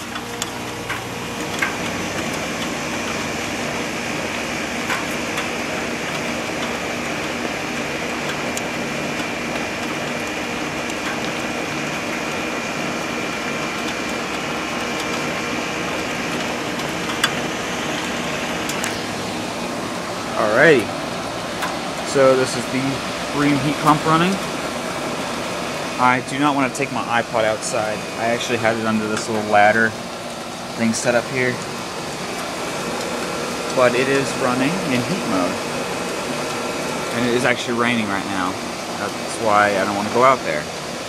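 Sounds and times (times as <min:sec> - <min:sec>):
heat pump whooshing hum: 0:00.0 - 0:41.0.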